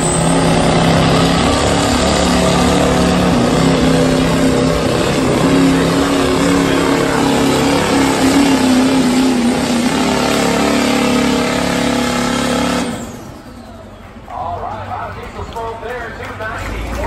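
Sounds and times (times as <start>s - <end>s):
diesel engine revving under load: 0.0s - 14.3s.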